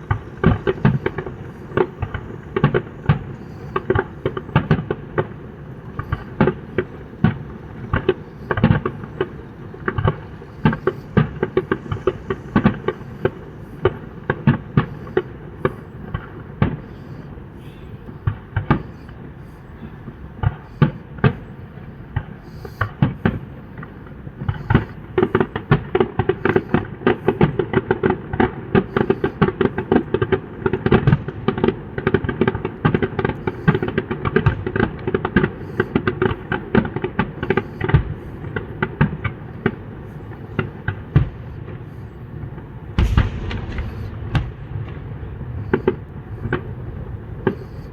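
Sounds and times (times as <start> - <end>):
fireworks bursting: 0.0 - 47.9.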